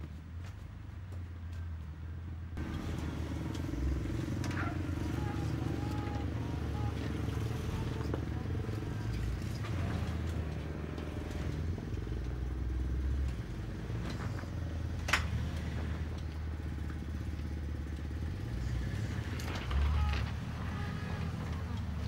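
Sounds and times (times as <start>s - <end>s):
off-road vehicle engine running: 0.0s - 22.0s
engine clatter: 2.6s - 22.0s.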